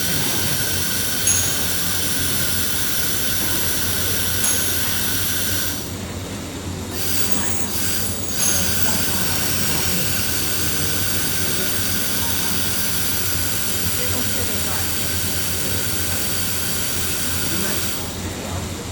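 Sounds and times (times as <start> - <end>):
high-pitched machine whine: 0.0 - 6.1, 6.9 - 18.2
metalworking machinery hissing: 0.0 - 18.9.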